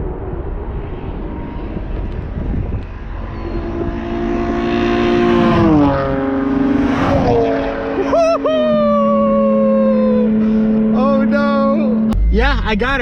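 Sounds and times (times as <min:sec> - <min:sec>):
racing cars passing by: 0:00.0 - 0:12.2.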